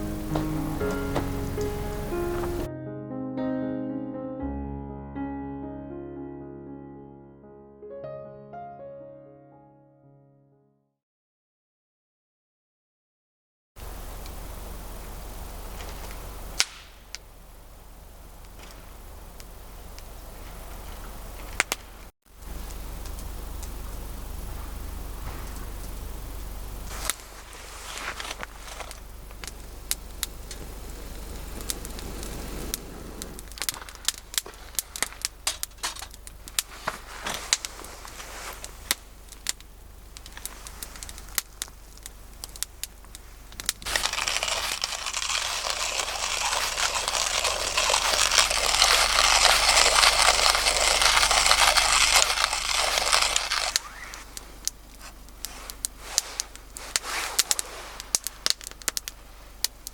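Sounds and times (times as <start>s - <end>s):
campfire crackling and popping: 0.0s - 2.7s, 13.8s - 59.9s
loud steady hiss: 0.0s - 2.7s, 13.8s - 59.9s.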